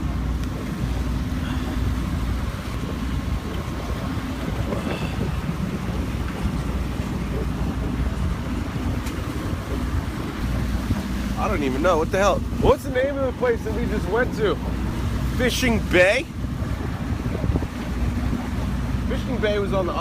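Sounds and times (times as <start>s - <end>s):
waves and water: 0.0s - 20.0s
wind buffeting microphone: 0.0s - 20.0s.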